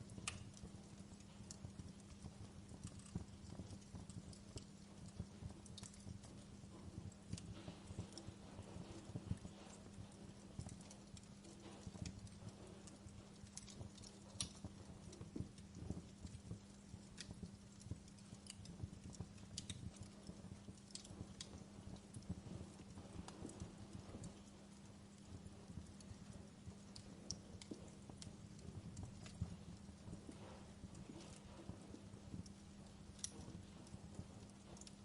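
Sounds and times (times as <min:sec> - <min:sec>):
burning logs popping: 0:00.0 - 0:35.0
wood fire crackling: 0:00.0 - 0:35.0.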